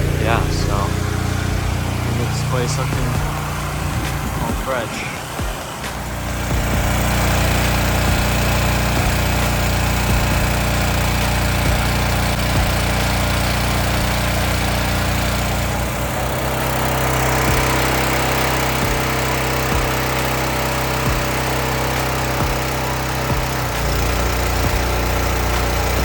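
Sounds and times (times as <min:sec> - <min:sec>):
pressure washer engine running: 0:00.0 - 0:26.0.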